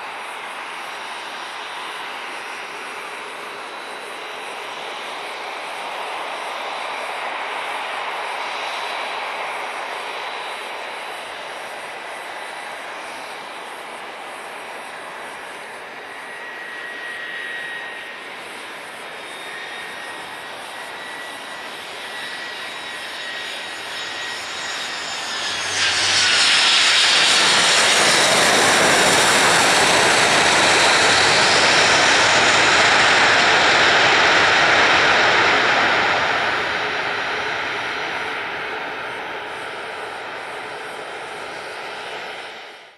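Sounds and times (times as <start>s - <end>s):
jet engines whining: 0.0s - 42.8s.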